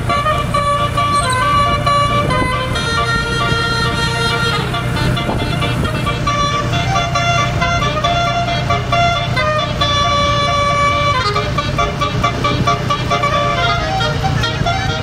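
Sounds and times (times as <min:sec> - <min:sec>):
low engine rumble: 0:00.0 - 0:15.0
multi-note bus horn tune: 0:00.0 - 0:15.0.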